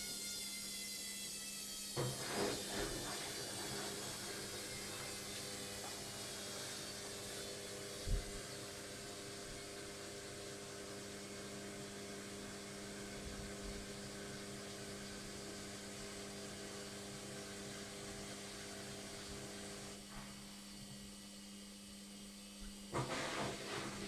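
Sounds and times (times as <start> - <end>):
washing machine spinning: 0.0 - 20.6, 22.9 - 24.0.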